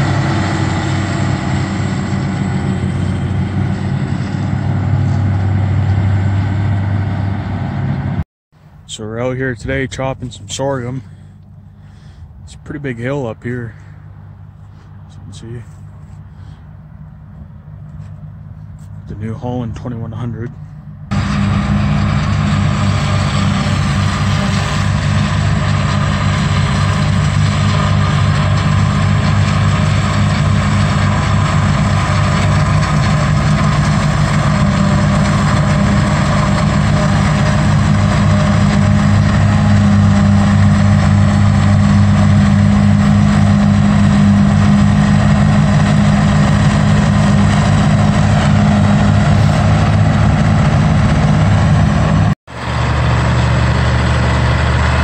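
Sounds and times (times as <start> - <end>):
forage harvester diesel drone: 0.0 - 55.0.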